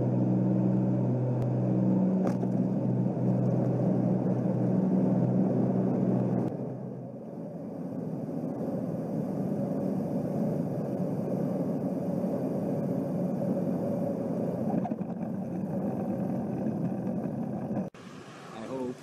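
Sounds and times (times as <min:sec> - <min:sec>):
small plane engine droning: 0:00.0 - 0:19.0.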